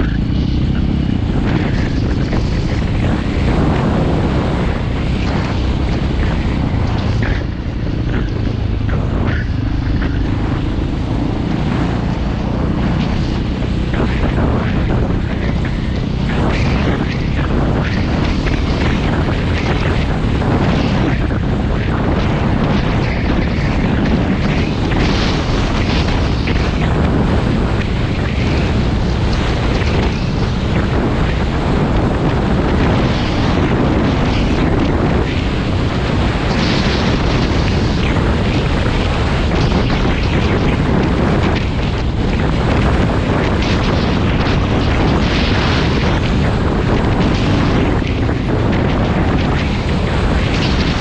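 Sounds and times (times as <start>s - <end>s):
dirt bike engine: 0.0s - 51.0s
wind buffeting microphone: 0.0s - 51.0s.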